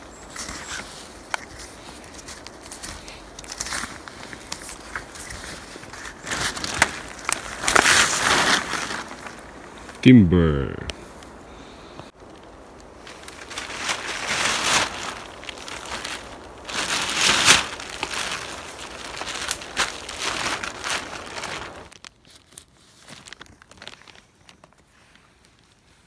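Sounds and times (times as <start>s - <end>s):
plastic tarp crinkling and rustling: 0.0s - 9.9s, 12.2s - 26.0s.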